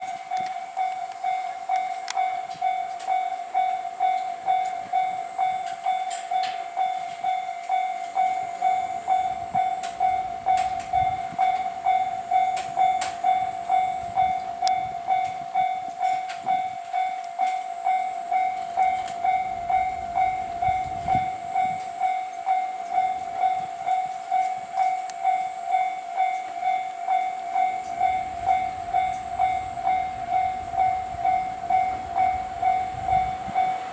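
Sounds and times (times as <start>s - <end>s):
level-crossing warning bell ringing: 0.0s - 33.9s.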